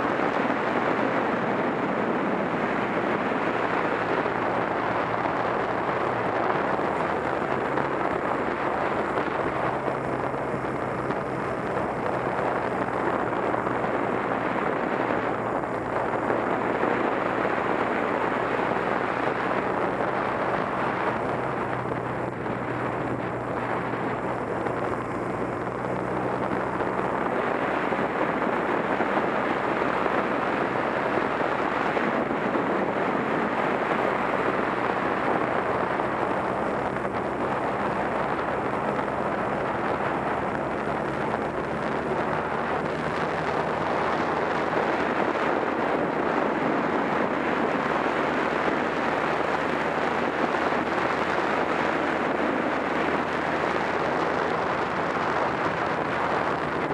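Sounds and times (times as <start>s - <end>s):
motorcycle engine cruising: 0.0s - 56.9s
wind rushing over microphone: 0.0s - 56.9s.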